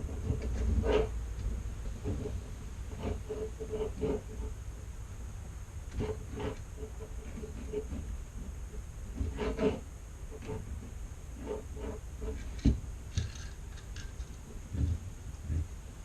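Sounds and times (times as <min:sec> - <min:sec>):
rubber and plastic parts scraping: 0:00.0 - 0:04.6, 0:05.9 - 0:09.8, 0:10.4 - 0:15.9.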